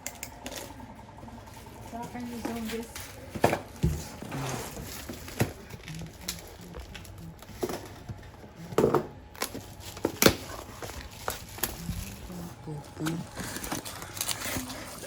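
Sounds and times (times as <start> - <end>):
packaging rustle: 1.4 - 8.2, 9.3 - 15.0.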